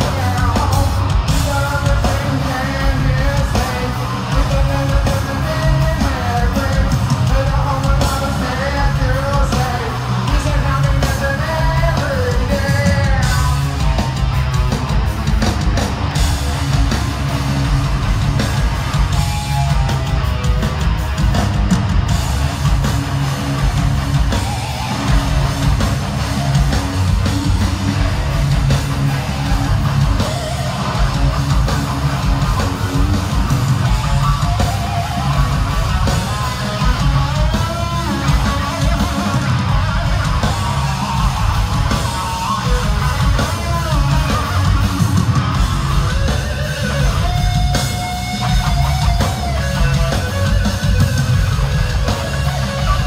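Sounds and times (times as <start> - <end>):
heavy metal band playing live: 0.0 - 53.0.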